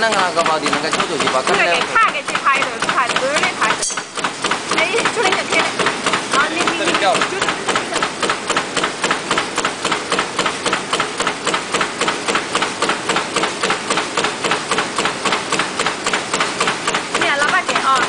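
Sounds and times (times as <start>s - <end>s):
die-cutting machine clacking: 0.0s - 18.0s.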